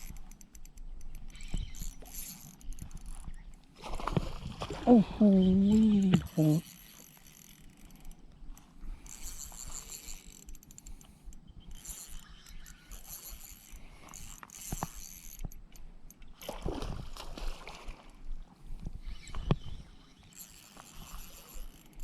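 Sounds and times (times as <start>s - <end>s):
fishing reel cranking and clicking: 0.0s - 3.6s, 5.2s - 16.6s, 19.0s - 22.0s.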